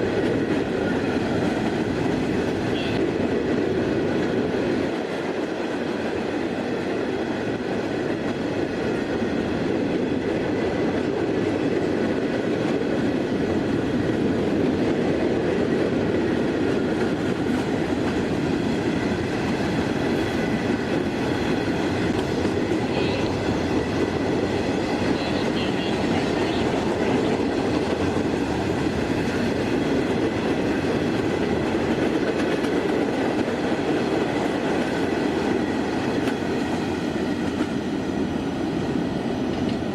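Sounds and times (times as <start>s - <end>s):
train cars rumbling over rails: 0.0s - 39.9s.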